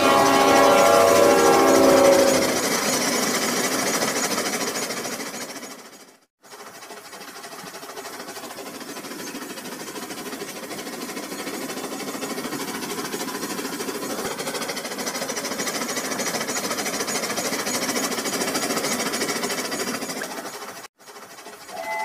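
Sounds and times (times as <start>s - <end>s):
clatter of wheels and gears: 0.0s - 22.0s
toy train motor whirring: 0.0s - 22.0s.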